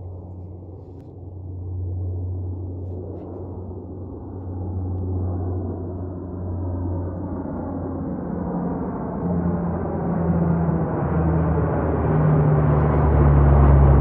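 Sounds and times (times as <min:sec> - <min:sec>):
turboprop aircraft droning: 0:00.0 - 0:14.0.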